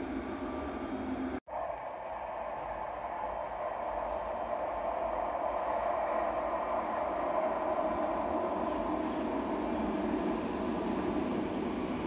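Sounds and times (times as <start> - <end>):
train rail rumble: 0.0 - 12.0.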